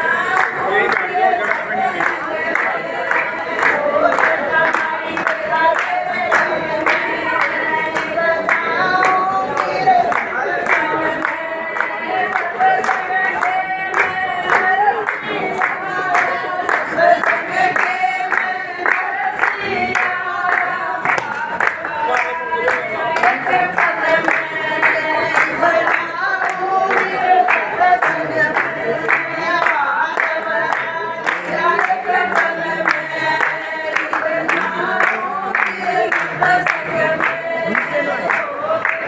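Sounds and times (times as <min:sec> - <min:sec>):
group singing devotional chant: 0:00.0 - 0:39.0
rhythmic handclaps: 0:00.0 - 0:39.0.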